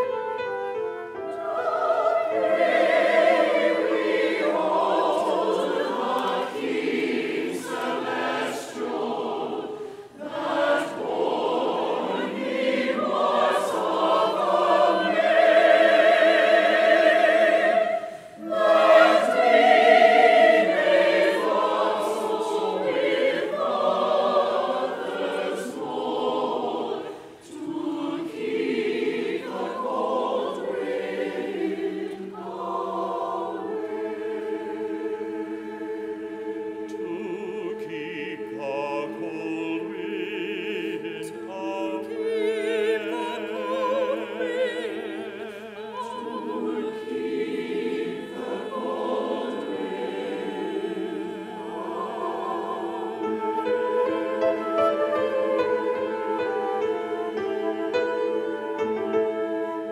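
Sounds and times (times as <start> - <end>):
church choir singing a hymn: 0.0 - 59.9.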